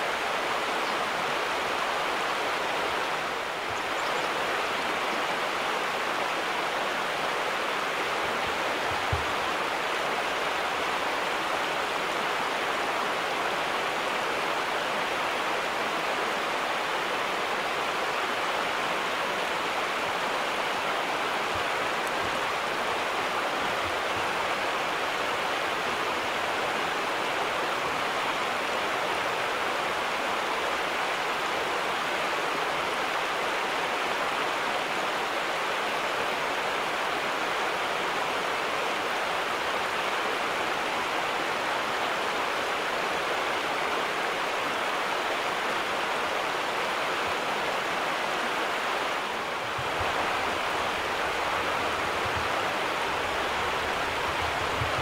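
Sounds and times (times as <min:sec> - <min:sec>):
river water rushing over rapids: 0:00.0 - 0:55.0.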